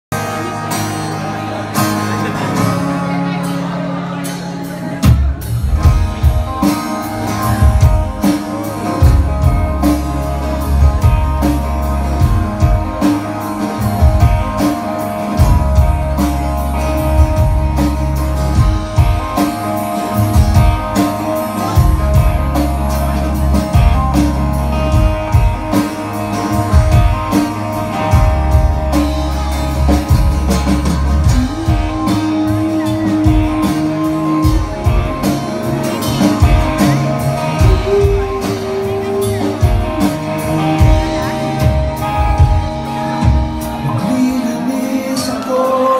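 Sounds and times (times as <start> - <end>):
heavy bass guitar: 0.1 - 45.9
live rock band playing: 0.1 - 45.9.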